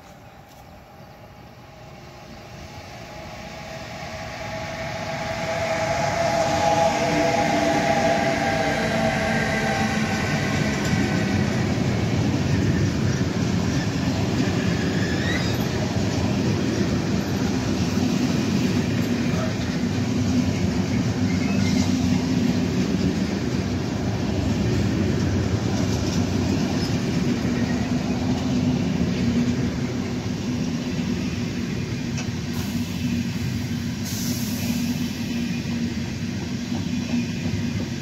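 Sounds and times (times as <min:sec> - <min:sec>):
electric locomotive passing: 0:00.0 - 0:38.0
train wagons rolling on rails: 0:00.0 - 0:38.0.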